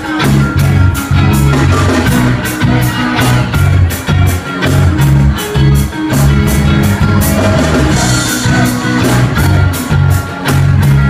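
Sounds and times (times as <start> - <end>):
bass guitar: 0.0 - 11.0
drum kit with cymbals: 0.0 - 11.0
electric guitars: 0.0 - 11.0.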